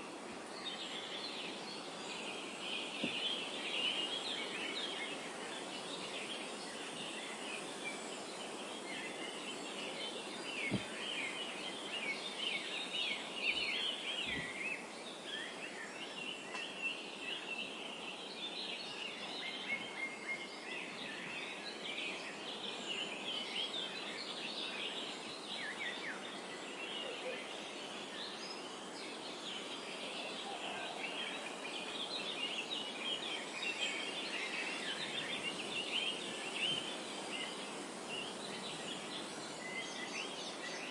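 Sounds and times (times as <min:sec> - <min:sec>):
small birds chirping: 0:00.0 - 0:40.9
steady background hiss: 0:00.0 - 0:40.9.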